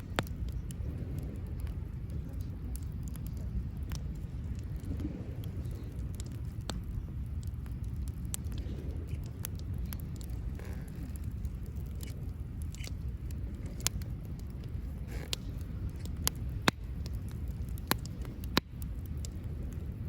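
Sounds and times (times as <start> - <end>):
campfire crackling: 0.0 - 20.0
steady low rumble: 0.0 - 20.0.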